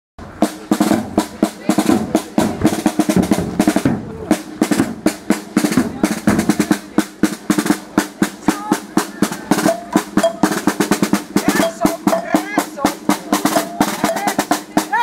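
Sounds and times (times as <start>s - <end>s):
fast snare drumming and rolls: 0.2s - 15.0s.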